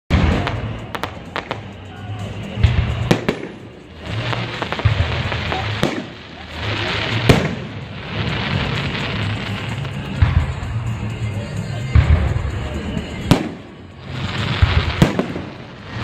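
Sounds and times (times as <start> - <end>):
firework shells bursting: 0.1 - 11.0, 12.0 - 16.0
background music: 0.1 - 16.0
firework crackling: 0.1 - 16.0.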